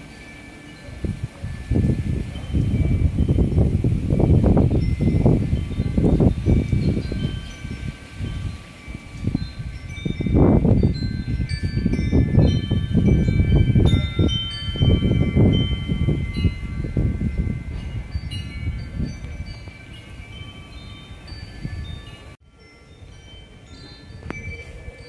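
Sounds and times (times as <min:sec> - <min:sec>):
wind chimes ringing: 0:00.0 - 0:25.0
gusty wind on microphone: 0:00.8 - 0:22.4.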